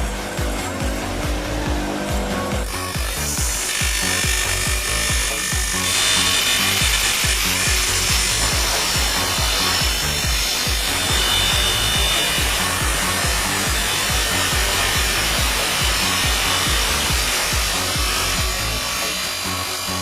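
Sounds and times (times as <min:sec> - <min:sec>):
machine grinding metal: 0:00.0 - 0:20.0
music with pulsing bass beat: 0:00.0 - 0:20.0.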